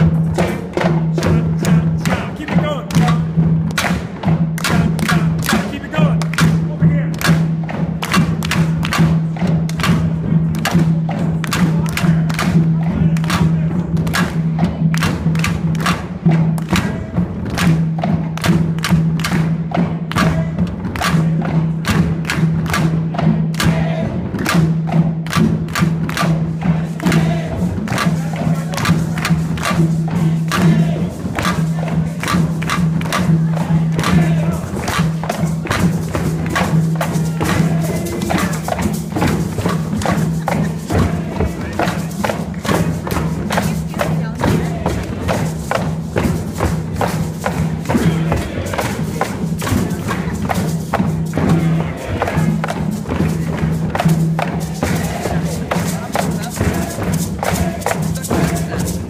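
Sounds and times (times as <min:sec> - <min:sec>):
hand drums beating: 0:00.0 - 0:59.0.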